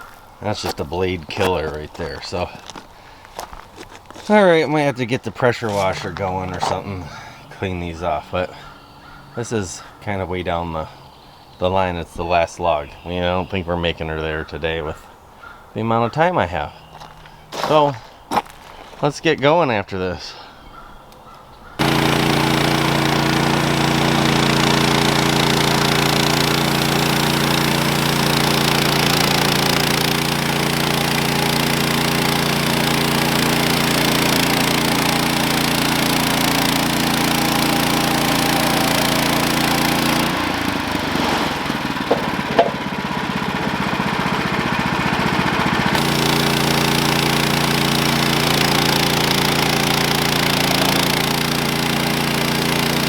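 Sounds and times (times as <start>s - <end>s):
small gasoline engine running: 0.0s - 11.5s, 21.8s - 53.0s.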